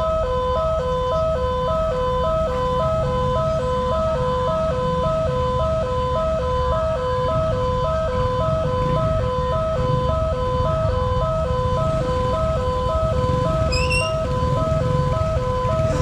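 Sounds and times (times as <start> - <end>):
level crossing two-tone siren: 0.0 - 16.0.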